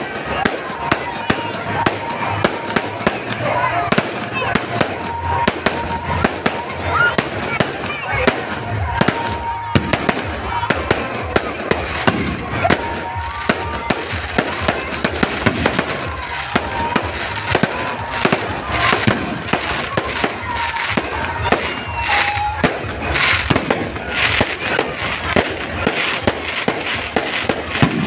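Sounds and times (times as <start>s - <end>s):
fireworks bangs and crackles: 0.0s - 28.0s
fireworks whistling: 0.0s - 28.0s.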